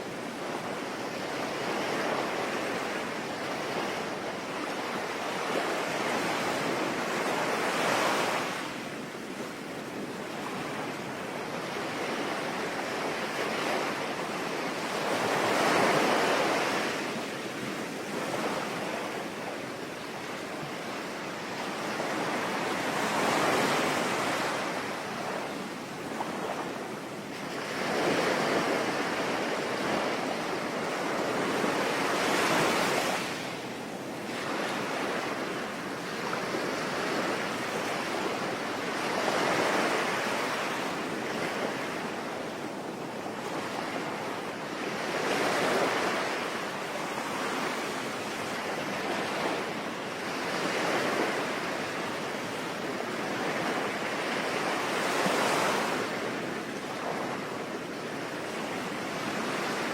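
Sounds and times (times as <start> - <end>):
sea waves surging: 0.0 - 59.9.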